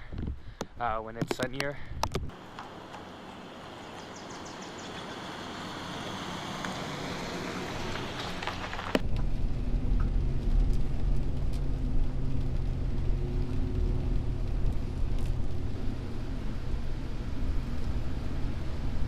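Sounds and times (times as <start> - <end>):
van engine rumbling: 1.6 - 19.0.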